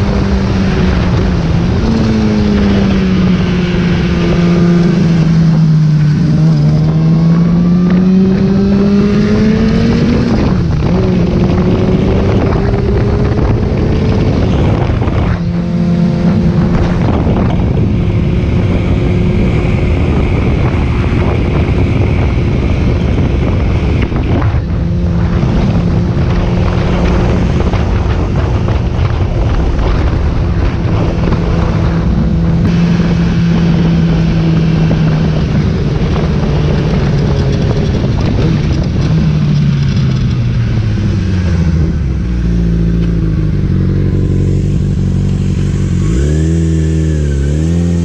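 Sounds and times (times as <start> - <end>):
motorcycle engine running: 0.0 - 48.0
wind buffeting microphone: 0.0 - 48.0.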